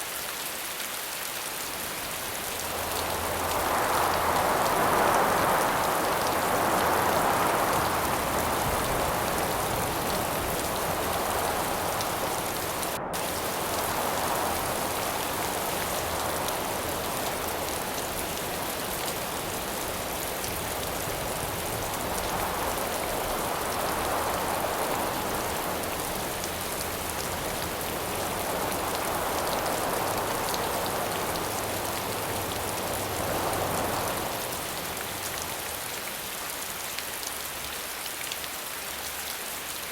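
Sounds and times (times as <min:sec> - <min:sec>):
steady rain falling: 0:00.0 - 0:39.9
wind gusts: 0:01.4 - 0:37.6.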